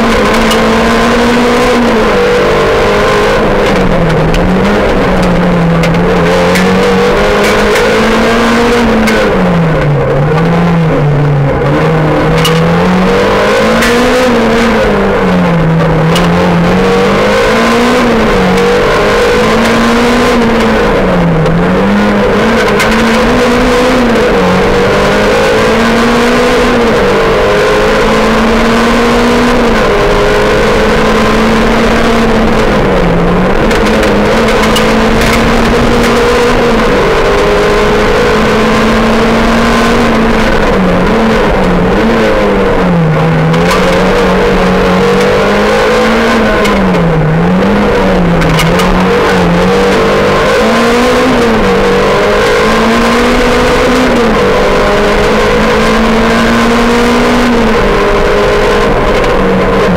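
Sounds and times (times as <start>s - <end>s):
rally car engine revving: 0.0s - 59.9s
road and tyre noise: 0.0s - 59.9s.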